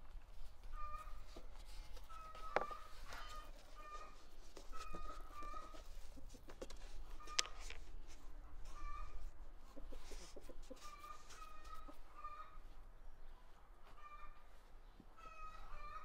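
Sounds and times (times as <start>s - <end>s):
chickens clucking: 0.5s - 16.0s.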